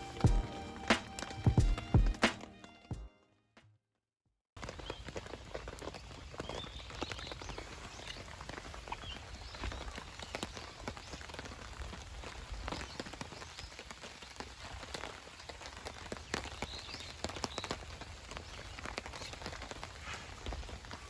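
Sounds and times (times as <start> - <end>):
rain pattering on a nylon tarp: 0.0 - 2.5, 4.6 - 21.0.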